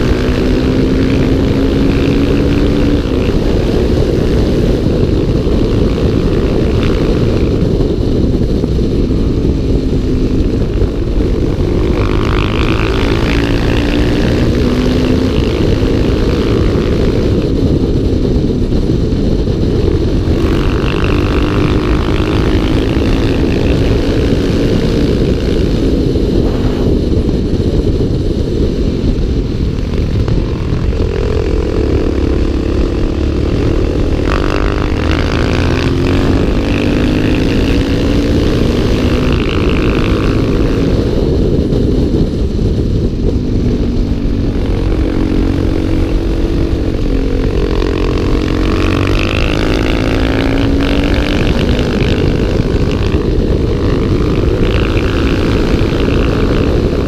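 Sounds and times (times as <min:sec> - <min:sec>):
motorcycle engines running: 0:00.0 - 0:57.0
wind on microphone: 0:00.0 - 0:57.0.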